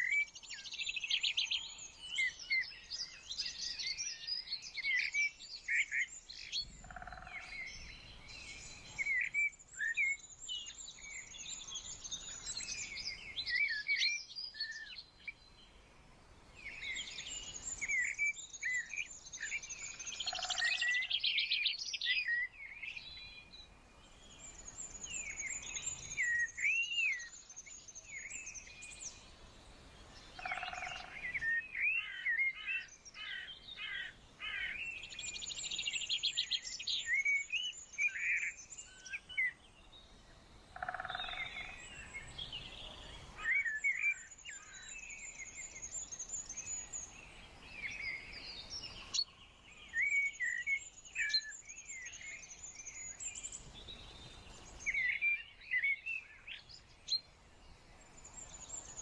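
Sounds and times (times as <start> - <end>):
songbirds chirping and whistling: 0.0 - 15.6, 16.6 - 59.0.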